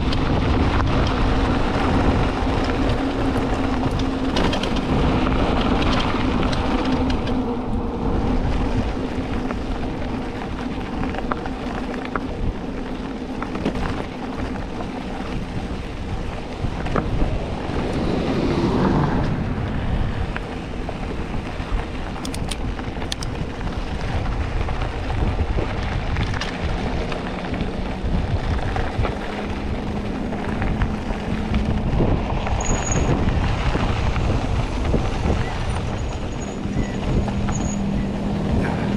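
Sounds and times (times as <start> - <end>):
bike tyres rolling on dirt: 0.0 - 38.9
wind on microphone: 0.0 - 38.9.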